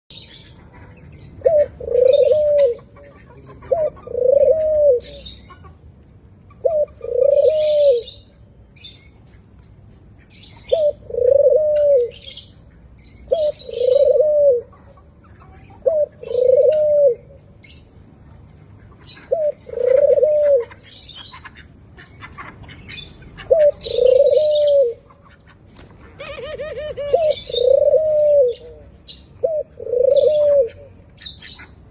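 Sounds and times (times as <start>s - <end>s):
doves cooing: 0.6s - 8.4s, 10.6s - 17.5s, 19.1s - 21.4s, 22.8s - 31.9s.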